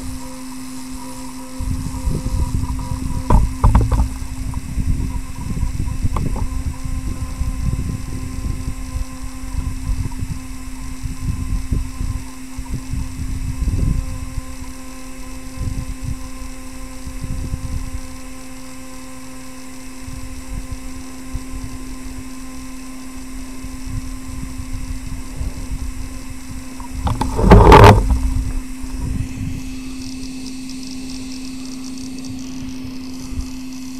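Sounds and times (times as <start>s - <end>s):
steady low hum: 0.0s - 33.9s
wind buffeting microphone: 1.5s - 18.3s, 20.0s - 30.4s, 31.0s - 33.9s.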